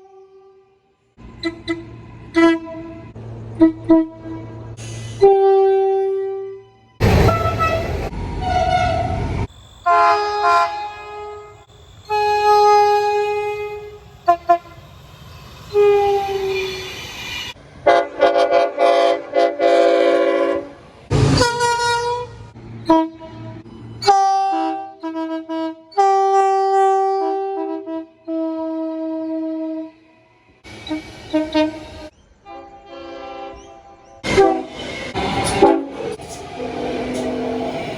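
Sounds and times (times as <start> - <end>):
heavy train rumble: 1.2 - 37.9
locomotive air horn blasts: 1.3 - 14.8, 15.7 - 16.9, 17.8 - 30.1, 30.8 - 36.0.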